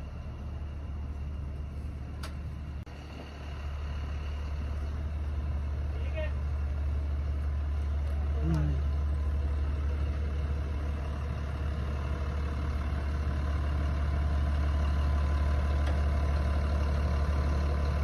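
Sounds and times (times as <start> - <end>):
tractor diesel engine idling: 0.0 - 18.0.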